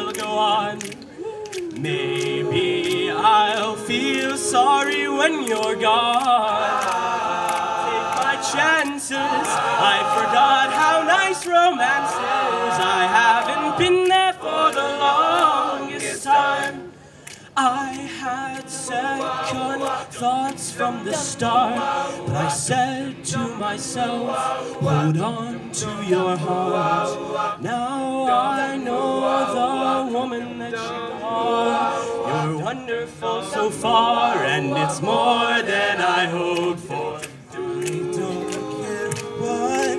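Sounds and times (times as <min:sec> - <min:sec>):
a cappella group singing: 0:00.0 - 0:39.9.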